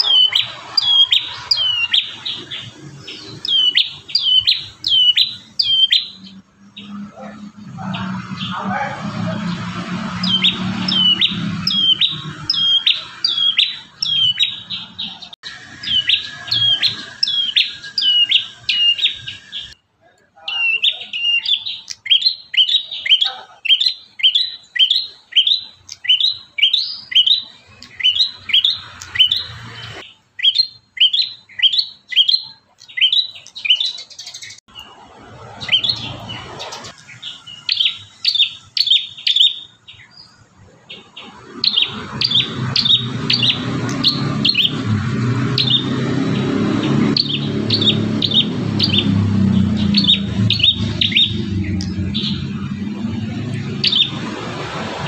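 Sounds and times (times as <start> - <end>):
bird singing sharp chirps: 0.0 - 19.8, 20.4 - 55.0.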